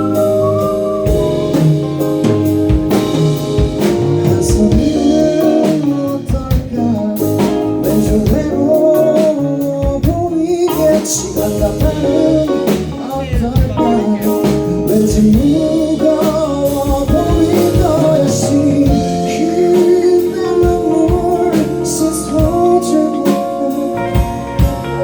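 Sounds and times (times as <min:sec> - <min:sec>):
drum kit beat: 0:00.0 - 0:25.0
guitar: 0:00.0 - 0:25.0
keyboard: 0:00.0 - 0:25.0
melodic lead line: 0:00.0 - 0:25.0.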